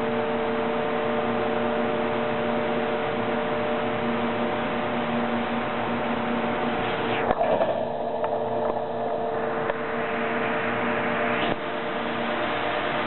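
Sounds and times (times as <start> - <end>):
industrial machinery humming: 0.0 - 13.0.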